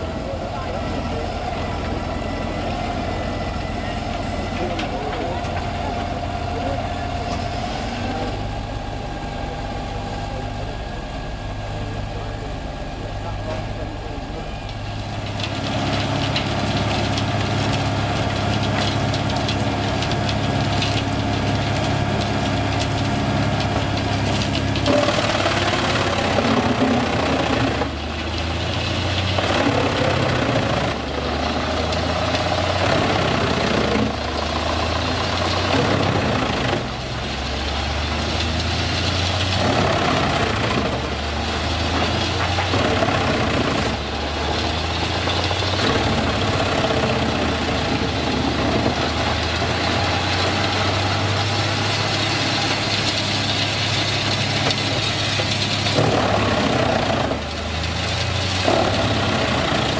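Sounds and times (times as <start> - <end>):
tractor engine drone: 0.0 - 59.9
wood chipper chewing logs: 0.0 - 59.9.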